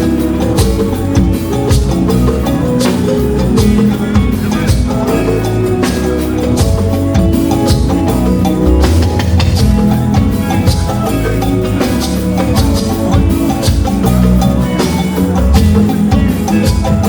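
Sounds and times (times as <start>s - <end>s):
drums with steady beat: 0.0s - 17.0s
sustained instrumental tones: 0.0s - 17.0s.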